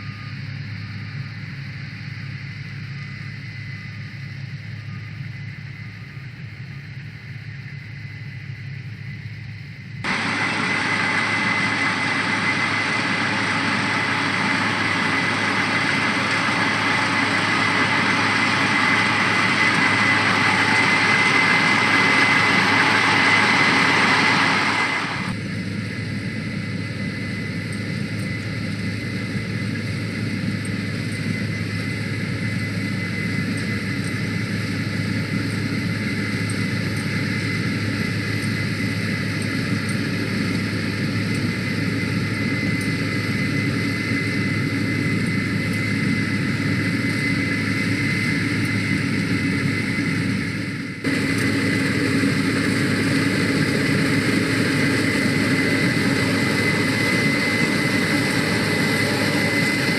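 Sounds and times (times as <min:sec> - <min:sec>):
combine harvester engine hum: 0:00.0 - 0:59.9
high machinery whine: 0:00.0 - 0:59.9.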